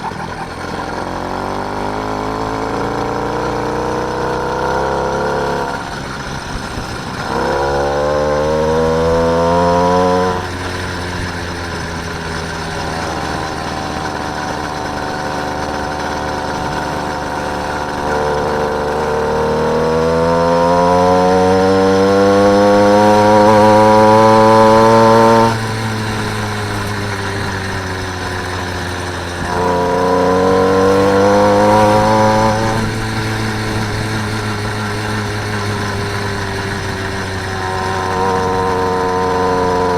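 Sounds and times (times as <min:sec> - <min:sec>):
motorised bicycle engine revving: 0:00.0 - 0:39.9.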